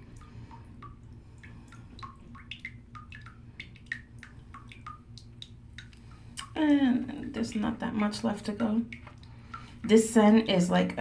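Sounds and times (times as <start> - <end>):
watery plinks and pops: 0.0 - 10.0
low steady hum: 0.0 - 11.0.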